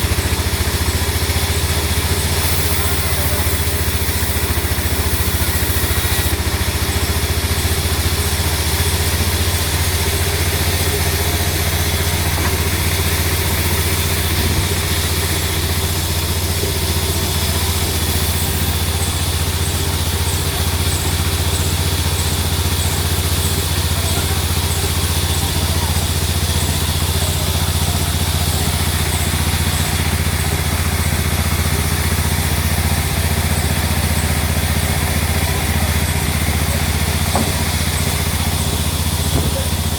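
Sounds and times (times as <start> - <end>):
sawmill machinery low drone: 0.0 - 39.9.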